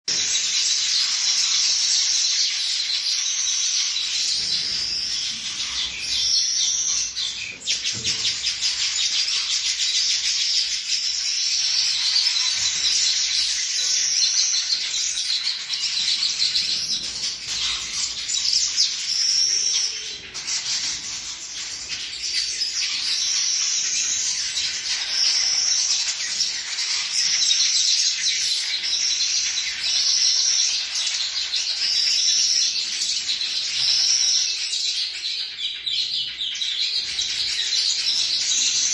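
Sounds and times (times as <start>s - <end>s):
birds chirping and chattering: 0.1s - 38.9s.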